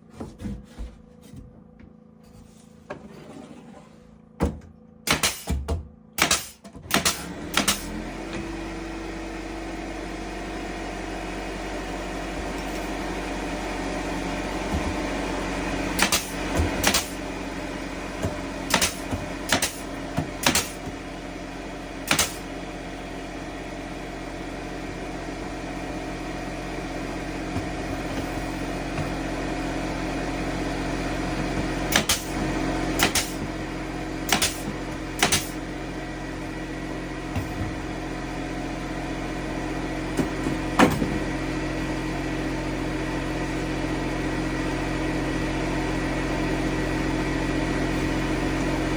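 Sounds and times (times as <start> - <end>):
steady mechanical hum: 0.0 - 48.9.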